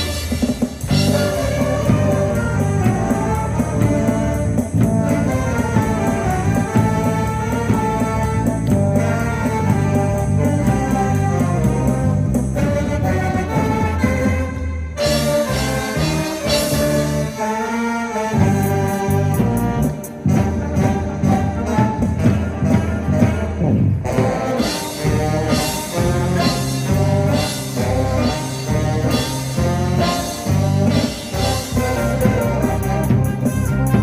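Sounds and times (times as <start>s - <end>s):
bass and drum beat: 0.0s - 17.4s, 18.4s - 34.0s
brass instruments playing melody: 0.0s - 34.0s.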